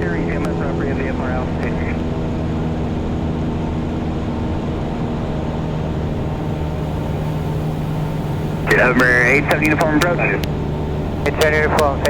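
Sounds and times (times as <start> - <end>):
airplane engine droning in cockpit: 0.0 - 12.0.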